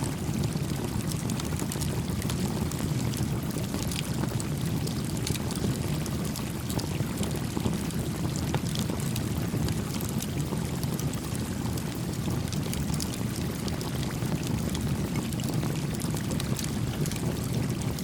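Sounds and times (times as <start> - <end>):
campfire crackling and popping: 0.1 - 18.0.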